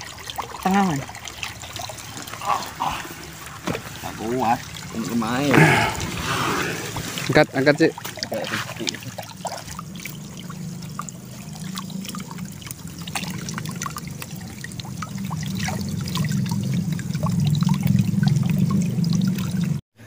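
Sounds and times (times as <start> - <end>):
small splashes: 0.0 - 19.8
water trickling in a pond: 0.0 - 19.8.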